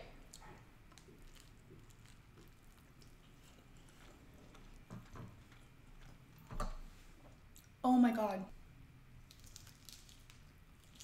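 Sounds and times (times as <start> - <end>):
person chewing food: 0.0 - 7.8, 9.2 - 11.0.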